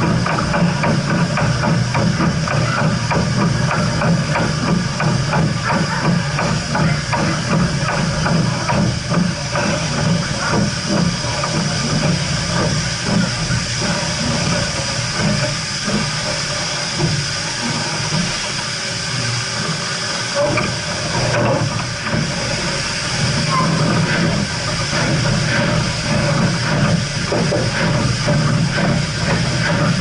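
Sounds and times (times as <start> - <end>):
hiss of escaping steam: 0.0 - 30.0
low knocks of steam locomotive: 0.0 - 30.0.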